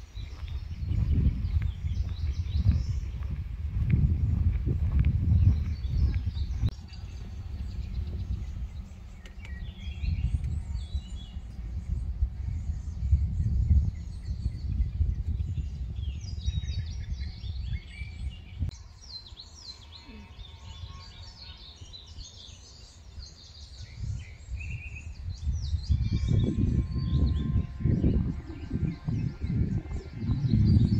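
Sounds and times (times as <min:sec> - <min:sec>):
low rumble: 0:00.0 - 0:18.8, 0:24.0 - 0:30.9
birds chirping and calling: 0:00.0 - 0:30.9.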